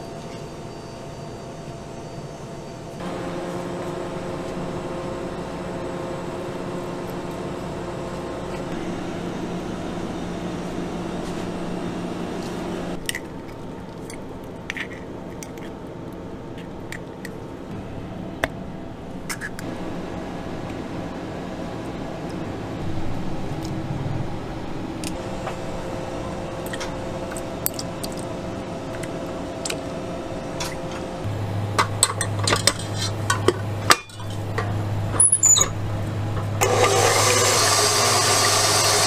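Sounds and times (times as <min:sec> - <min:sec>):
kitchen machine hum: 0:00.0 - 0:39.0.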